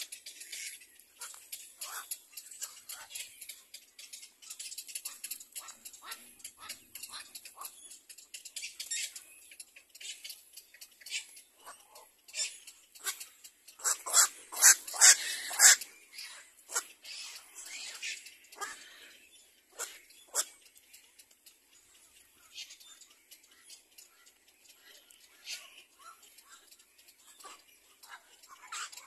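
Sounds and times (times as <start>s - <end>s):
chicks squeaky calls: 0.0s - 29.0s.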